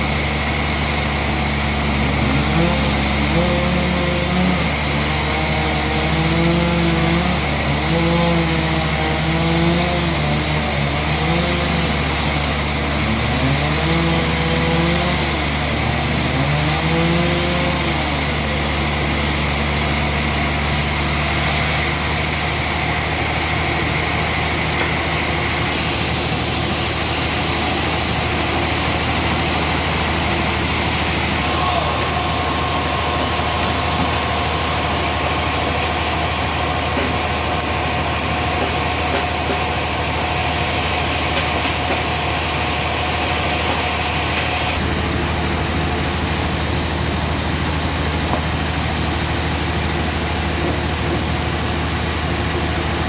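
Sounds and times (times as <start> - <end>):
engine running loudly: 0.0 - 53.0.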